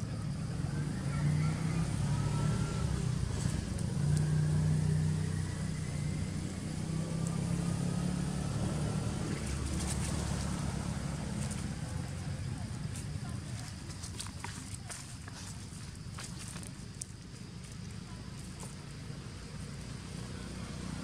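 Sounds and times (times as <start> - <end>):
motor engine hum: 0.0 - 21.0.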